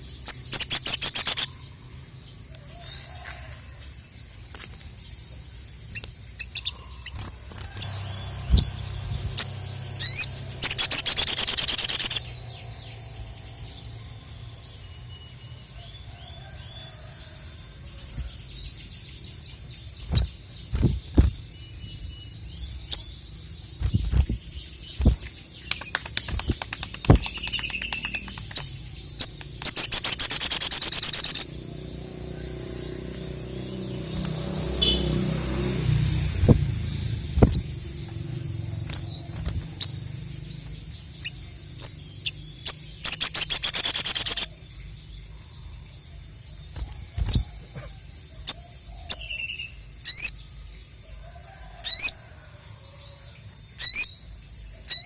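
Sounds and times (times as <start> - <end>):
bird chirping and trilling: 0.0 - 3.2, 4.2 - 51.2, 53.0 - 55.0.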